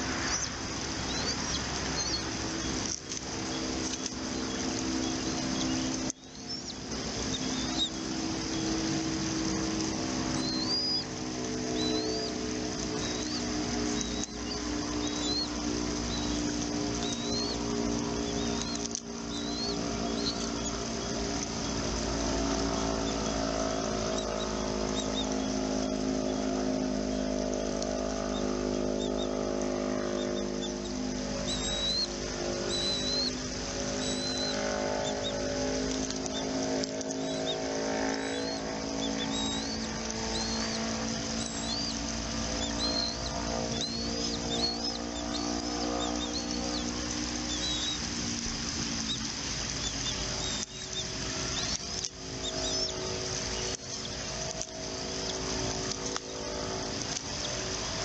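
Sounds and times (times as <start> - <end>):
motor engine running: 0.0 - 58.0.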